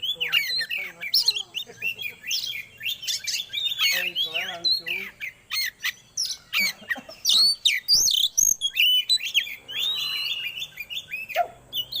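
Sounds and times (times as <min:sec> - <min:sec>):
songbird singing varied song: 0:00.0 - 0:12.0.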